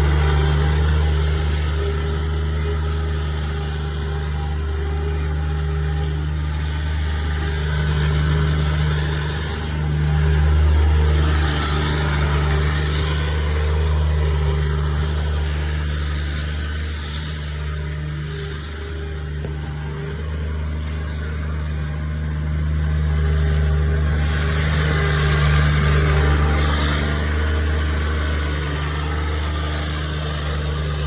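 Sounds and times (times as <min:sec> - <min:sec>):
loader engine droning: 0:00.0 - 0:31.0.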